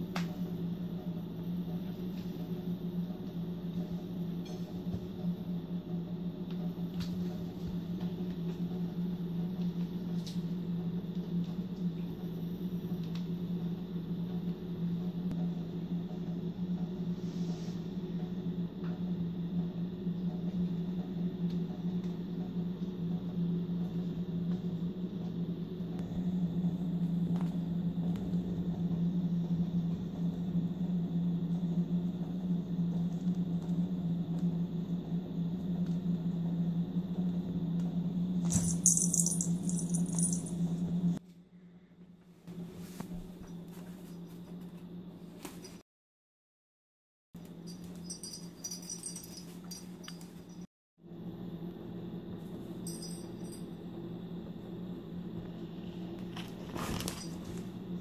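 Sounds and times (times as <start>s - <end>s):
low machine hum: 0.0s - 45.8s, 47.4s - 58.0s.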